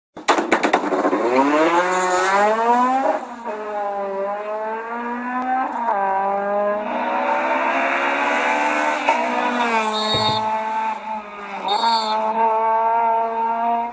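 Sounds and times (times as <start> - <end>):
race car engine accelerating: 0.9 - 13.9.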